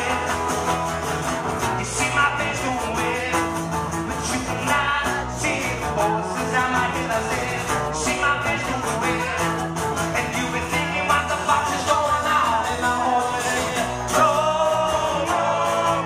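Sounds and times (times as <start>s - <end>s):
person singing into microphone: 0.0s - 0.8s, 1.6s - 16.0s
acoustic guitars strumming: 0.0s - 16.0s.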